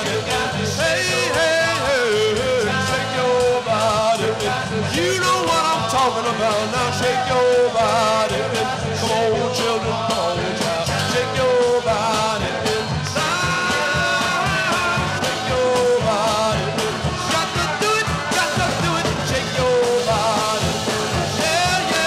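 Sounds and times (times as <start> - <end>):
man singing: 0.0 - 22.0
rock band playing: 0.0 - 22.0.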